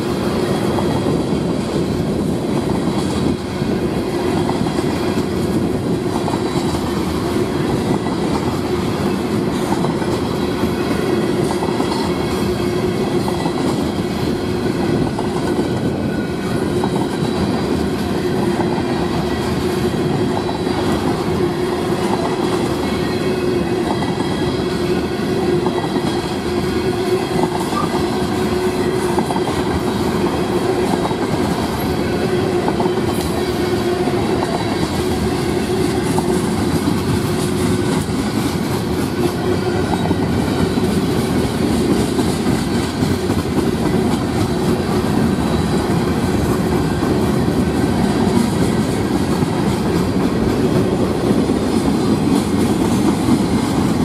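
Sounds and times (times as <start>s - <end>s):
train wheels rumbling and clattering: 0.0s - 54.0s.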